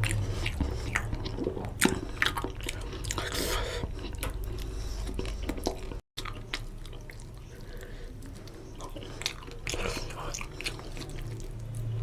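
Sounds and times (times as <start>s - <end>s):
wet chewing and mouth clicks: 0.0s - 12.0s.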